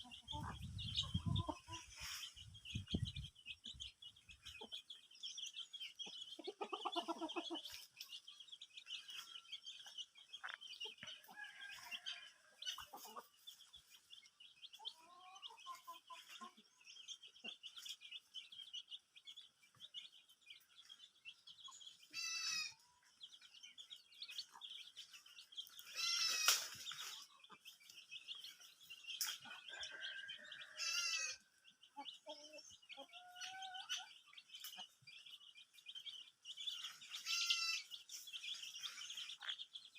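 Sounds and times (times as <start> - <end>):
chickens clucking and calling: 0.0 - 39.9
small birds chirping: 0.0 - 39.9.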